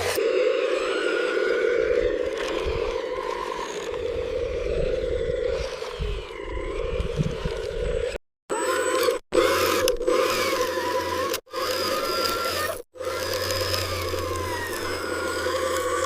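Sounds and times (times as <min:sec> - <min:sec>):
gliding motor whines: 0:00.0 - 0:16.0
small electric motors whirring: 0:00.0 - 0:16.0.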